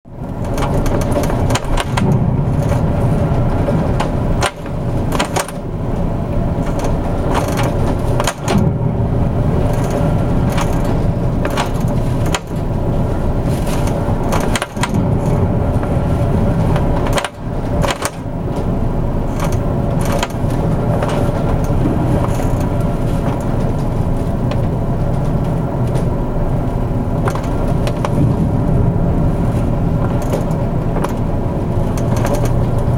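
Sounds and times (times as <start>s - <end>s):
ship engine drone: 0.1s - 32.9s.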